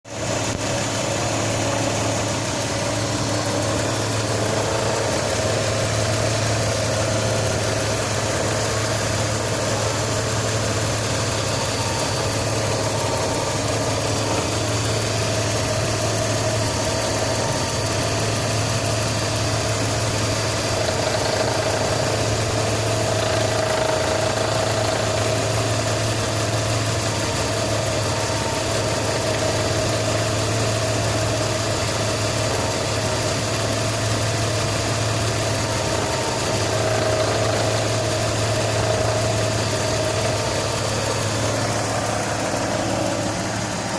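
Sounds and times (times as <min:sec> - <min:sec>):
car engine idling: 0:00.1 - 0:43.9.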